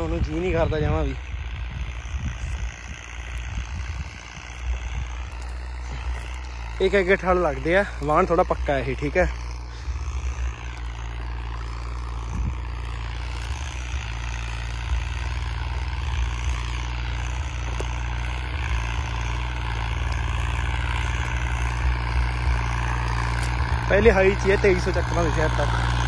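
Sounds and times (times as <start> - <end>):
tractor diesel engine drone: 0.0 - 26.0.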